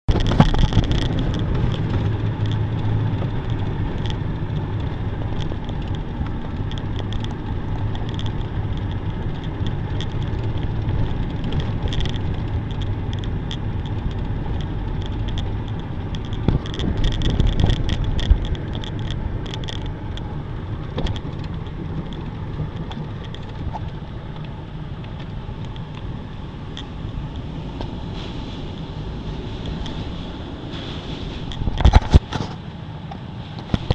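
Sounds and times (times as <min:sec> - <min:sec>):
car engine humming: 0:00.1 - 0:33.9.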